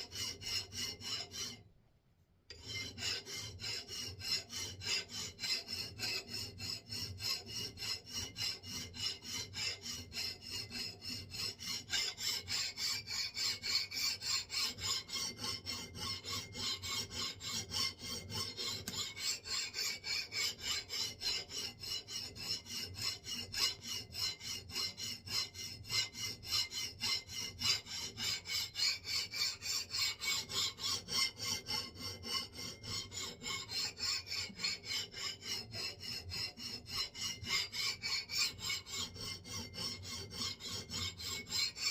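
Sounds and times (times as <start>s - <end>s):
file rasping on steel: 0.0s - 1.8s, 2.5s - 41.9s.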